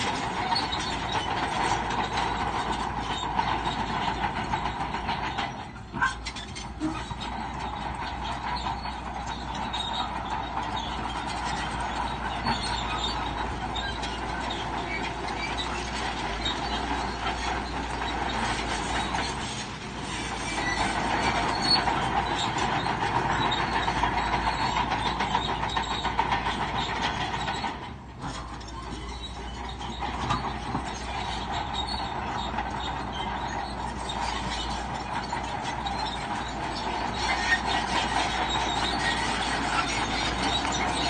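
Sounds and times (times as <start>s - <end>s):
bulldozer engine running: 0.0s - 41.0s
steel tracks clanking and squealing: 0.0s - 41.0s.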